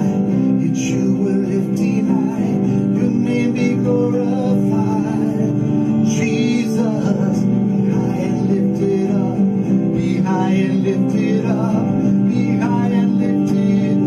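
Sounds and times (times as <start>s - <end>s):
acoustic guitar: 0.0s - 14.0s
man singing: 0.0s - 14.0s.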